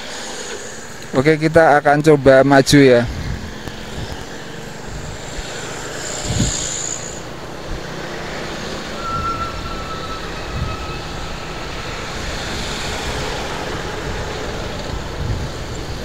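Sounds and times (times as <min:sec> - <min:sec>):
motorcycles passing: 0:00.0 - 0:16.0
road traffic passing: 0:00.0 - 0:16.0
wind rumbling on microphone: 0:02.2 - 0:16.0.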